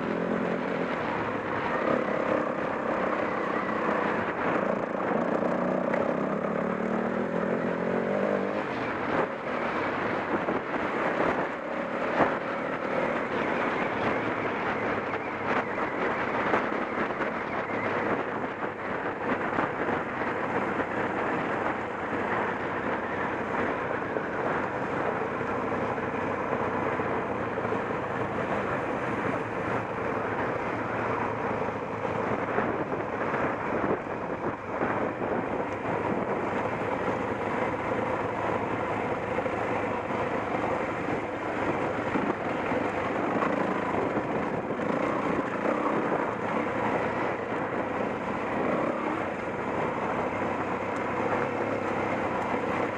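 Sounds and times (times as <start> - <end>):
motorcycle engine running: 0.0 - 52.9
wind noise on microphone: 0.0 - 52.9.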